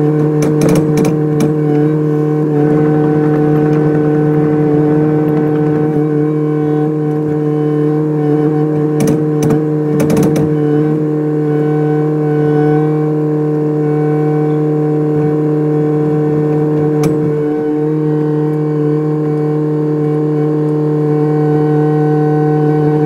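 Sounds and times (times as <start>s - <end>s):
excavator engine humming: 0.0s - 23.0s.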